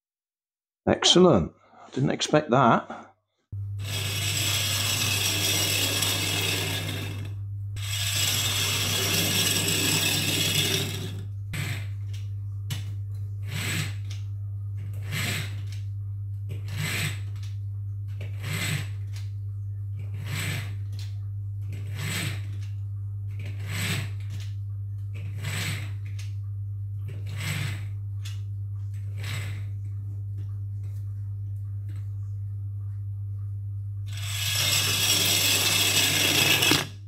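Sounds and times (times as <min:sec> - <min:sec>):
steady low hum: 0:03.6 - 0:37.0.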